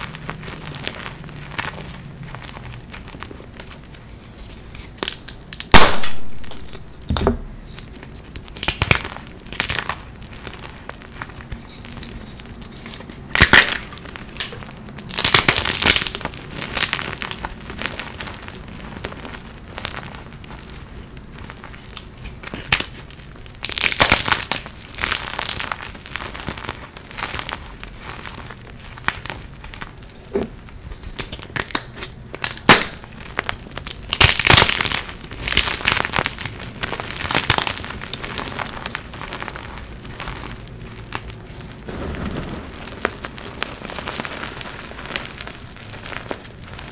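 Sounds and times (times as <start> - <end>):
powdery rustling: 0.0 - 5.6, 6.2 - 46.9.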